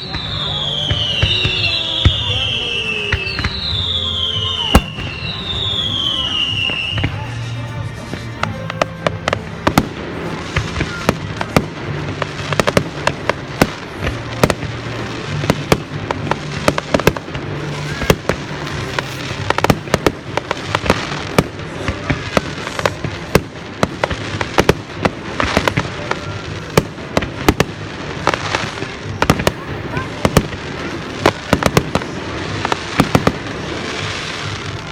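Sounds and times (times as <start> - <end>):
fireworks bangs and crackles: 0.0 - 34.9
music playing: 0.0 - 34.9.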